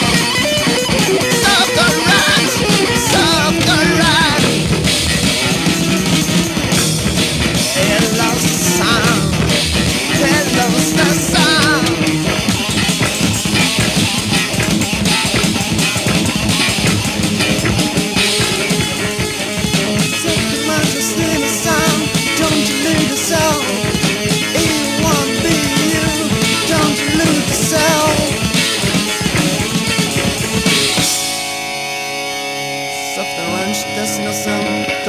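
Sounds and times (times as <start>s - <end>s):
electric guitar bent notes: 0.0s - 35.0s
rock band playing: 0.0s - 35.0s.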